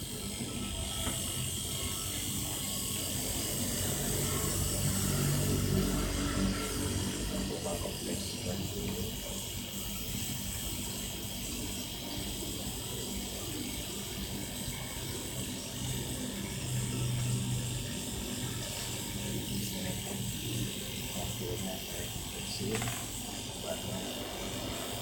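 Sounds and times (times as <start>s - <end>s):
compressor humming: 0.0s - 25.0s.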